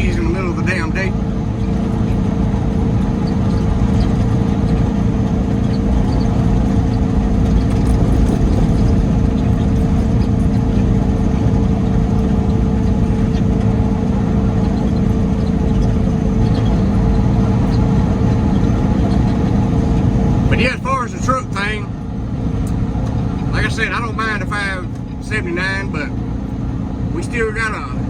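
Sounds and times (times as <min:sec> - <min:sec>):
diesel truck engine droning: 0:00.0 - 0:28.0.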